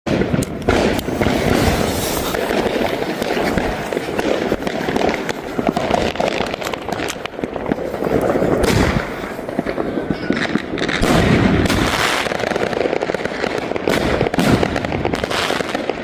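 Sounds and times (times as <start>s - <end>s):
firework crackling and popping: 0.1s - 16.0s.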